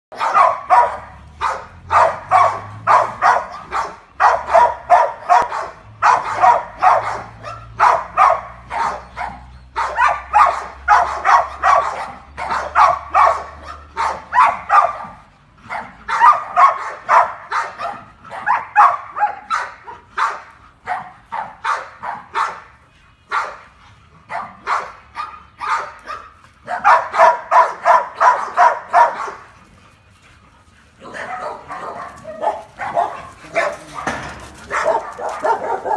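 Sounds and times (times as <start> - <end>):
dog barking in rapid runs: 0.1 - 22.6, 24.3 - 29.5, 31.0 - 35.9.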